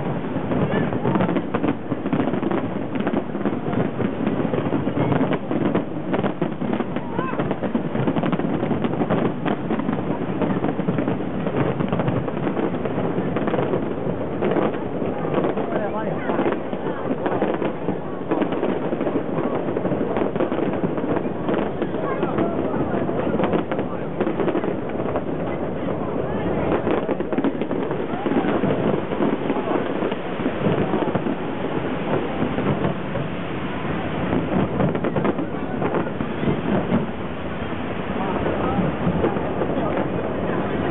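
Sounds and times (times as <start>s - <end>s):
crowd noise: 0.0s - 40.9s
fireworks bangs and crackles: 0.0s - 40.9s
wind on microphone: 0.0s - 40.9s.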